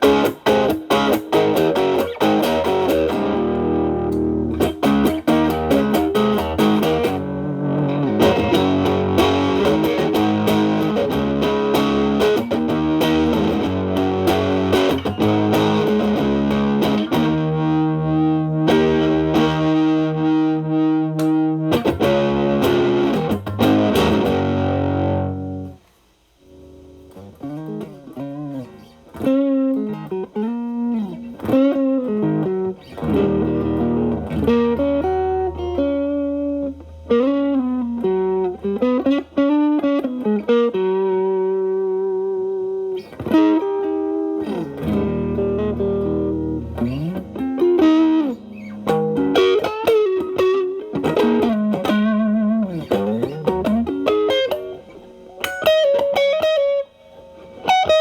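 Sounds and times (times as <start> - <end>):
distorted electric guitar lead: 0.0 - 25.8, 26.4 - 58.0.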